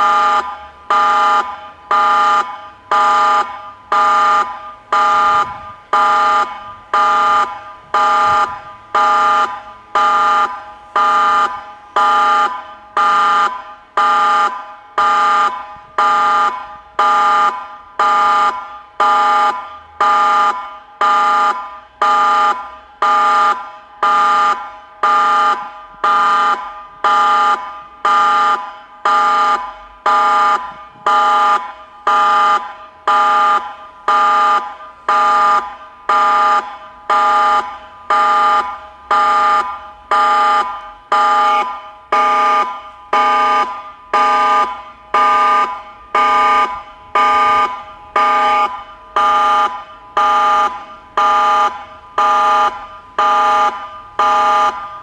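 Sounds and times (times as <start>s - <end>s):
siren tone pulsing on and off: 0.0s - 55.0s.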